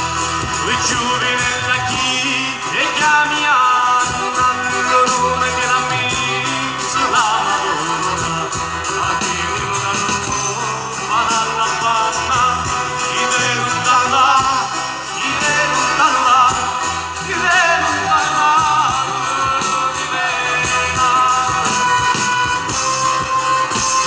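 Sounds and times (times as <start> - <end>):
accordion: 0.0 - 24.0
folk band playing dance tune: 0.0 - 24.0.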